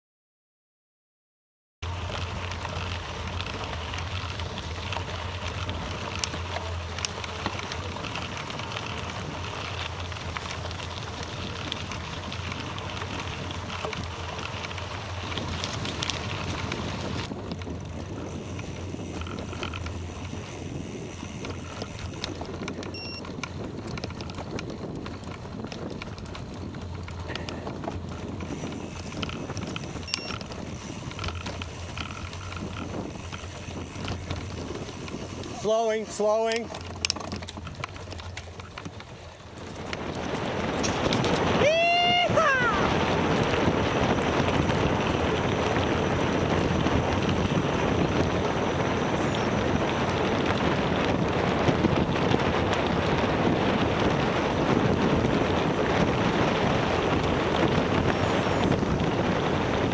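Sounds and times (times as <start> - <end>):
bicycle tyres on gravel: 1.8 - 59.9
wind buffeting microphone: 2.0 - 59.9.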